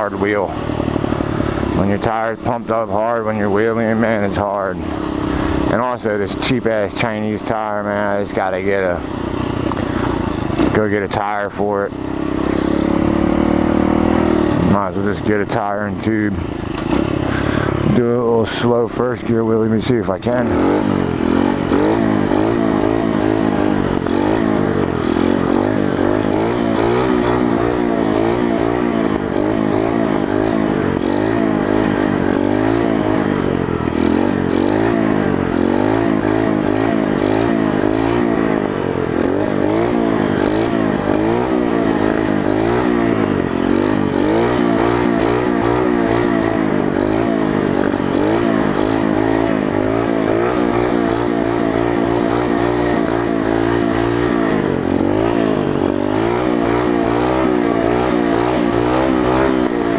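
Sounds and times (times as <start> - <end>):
motorcycle engine revs rising and falling: 0.0 - 59.9.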